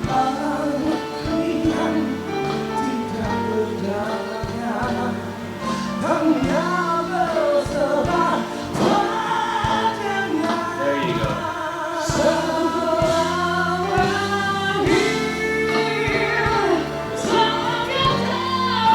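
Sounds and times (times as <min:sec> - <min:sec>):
harmonising backing voices: 0:00.0 - 0:18.9
instrumental accompaniment: 0:00.0 - 0:18.9
pop ballad singing: 0:00.0 - 0:18.9.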